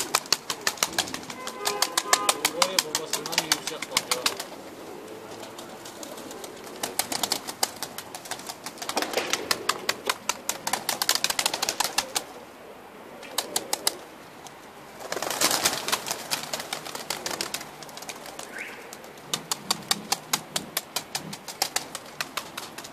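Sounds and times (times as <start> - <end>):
pigeon wings flapping: 0.0 - 12.4, 13.2 - 14.1, 14.9 - 22.9.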